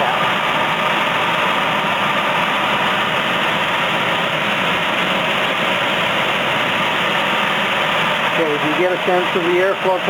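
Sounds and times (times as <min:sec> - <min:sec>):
furnace blower running: 0:00.0 - 0:10.0.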